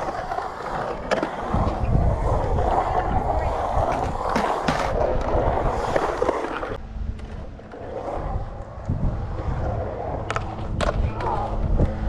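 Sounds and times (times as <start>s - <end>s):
skateboard wheels rolling on concrete: 0.0s - 12.0s
wind rumble: 0.0s - 12.0s.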